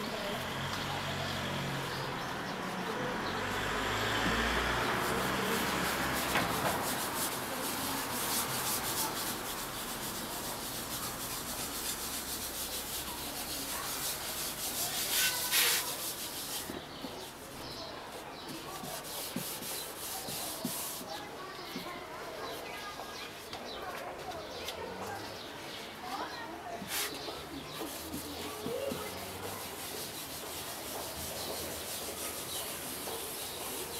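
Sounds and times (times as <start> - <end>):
cloth pad rubbing wax on wood: 0.2 - 23.5, 26.3 - 33.9.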